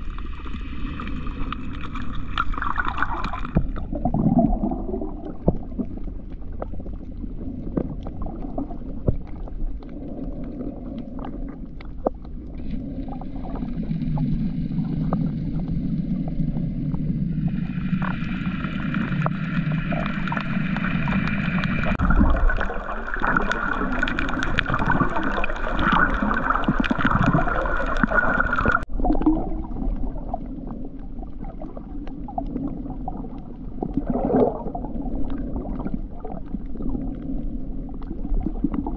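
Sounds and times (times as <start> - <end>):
motor whine underwater: 0.0 - 38.9
underwater sloshing and gurgling: 0.0 - 38.9.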